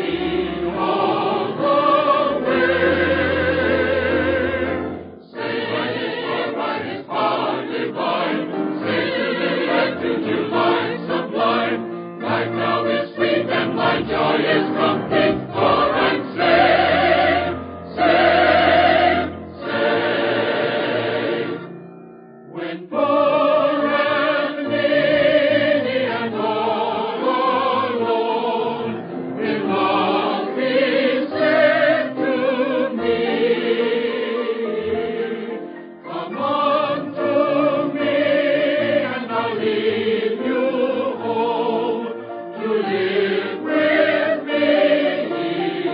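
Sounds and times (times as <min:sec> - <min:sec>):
choir singing a hymn: 0:00.0 - 0:21.8, 0:22.5 - 0:45.9.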